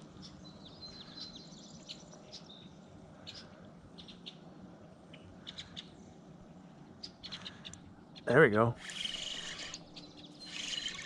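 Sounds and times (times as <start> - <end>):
faint low background hum: 0.0 - 11.0
small birds chirping: 0.0 - 11.0.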